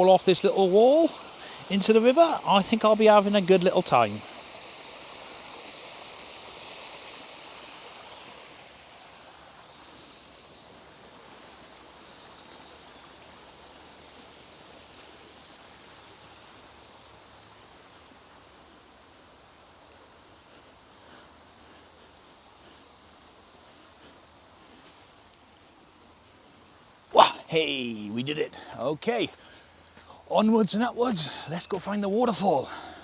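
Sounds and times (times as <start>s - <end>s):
stream rushing: 0.0s - 33.0s.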